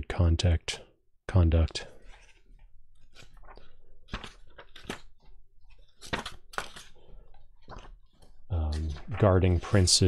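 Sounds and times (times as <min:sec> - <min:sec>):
book pages rustling: 0:01.9 - 0:10.0.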